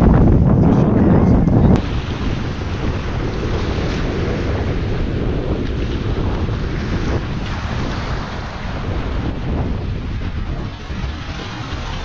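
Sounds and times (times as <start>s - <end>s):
surf breaking on sandy beach: 0.0s - 12.0s
wind buffeting microphone: 0.0s - 12.0s.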